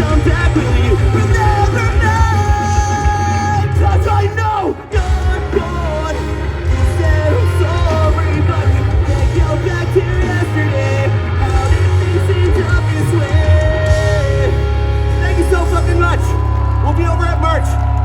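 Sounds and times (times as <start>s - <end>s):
person singing: 0.0s - 14.7s
rock band playing live: 0.0s - 18.0s.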